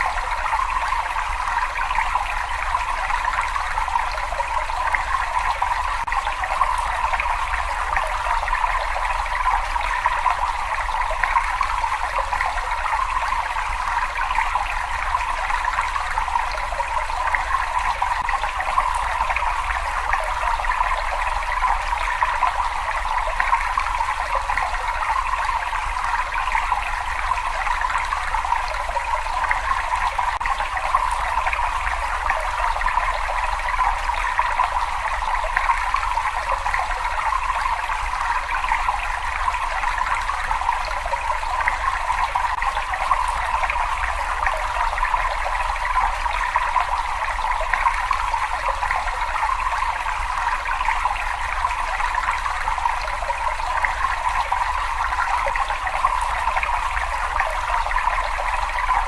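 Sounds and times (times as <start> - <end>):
water running and trickling in a cave: 0.0 - 59.0.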